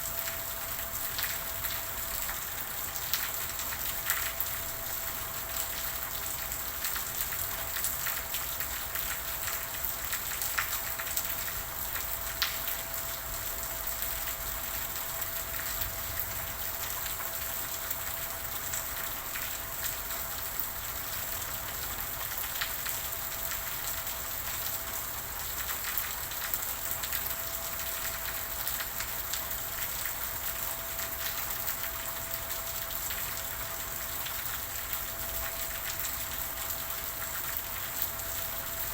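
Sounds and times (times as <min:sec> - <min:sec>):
raindrops ticking close by: 0:00.0 - 0:38.9
steady rain hiss: 0:00.0 - 0:38.9.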